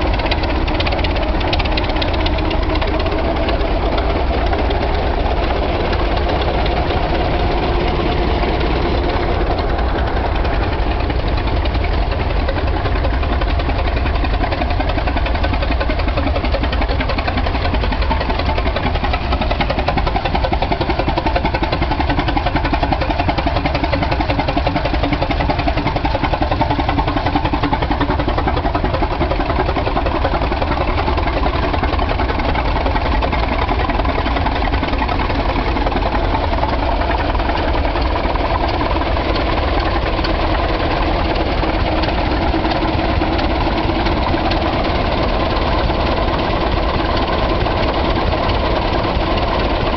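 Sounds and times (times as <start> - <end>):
tractor engine idling: 0.0 - 49.9.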